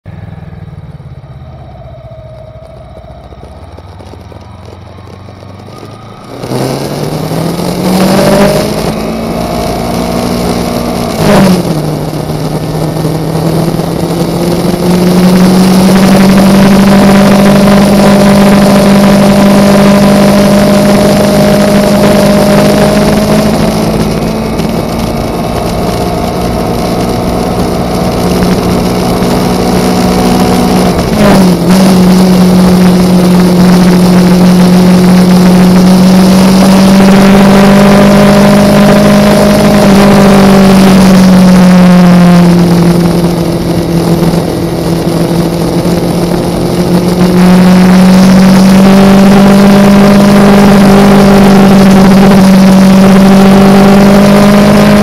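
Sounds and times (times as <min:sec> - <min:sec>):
motorcycle engine revving: 0:00.0 - 0:55.0
rushing wind noise: 0:00.1 - 0:55.0.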